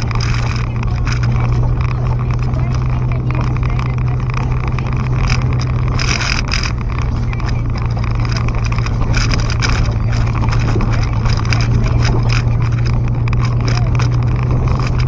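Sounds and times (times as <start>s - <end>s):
car clattering over ruts: 0.0s - 15.0s
car engine and tyres drone: 0.0s - 15.0s.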